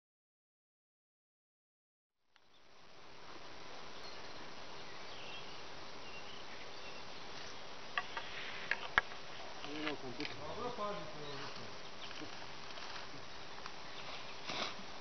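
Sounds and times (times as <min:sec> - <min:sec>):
steady hiss: 0:02.3 - 0:15.0.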